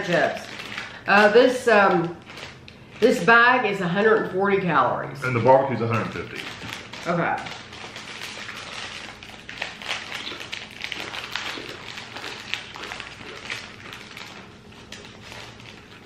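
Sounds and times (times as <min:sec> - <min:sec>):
chips crunching: 0:00.0 - 0:03.1, 0:05.8 - 0:16.0
chip bags crinkling: 0:00.0 - 0:03.6, 0:05.3 - 0:16.0.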